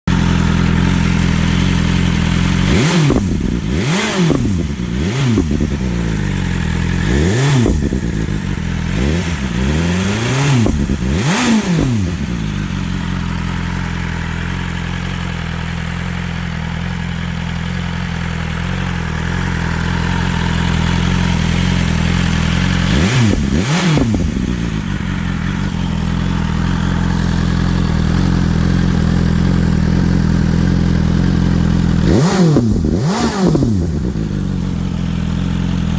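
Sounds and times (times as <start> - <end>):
motorcycle engine revving: 0.0 - 35.9
exhaust crackling: 0.1 - 35.9.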